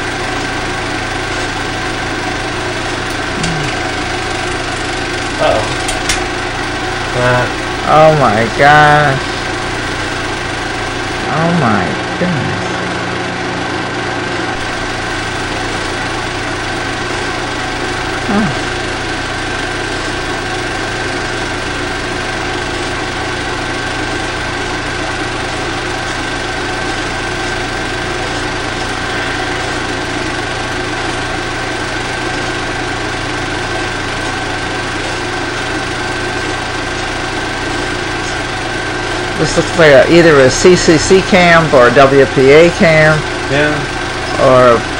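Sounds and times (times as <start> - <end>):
machine drone with hum and whine: 0.0 - 44.9.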